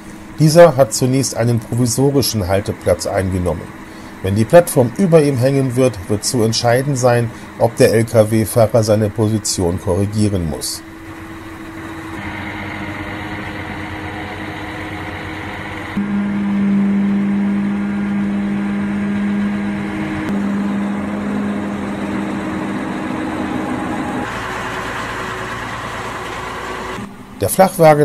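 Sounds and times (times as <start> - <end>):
crane diesel engines running: 0.0 - 28.0
loud low steady hum: 0.0 - 28.0.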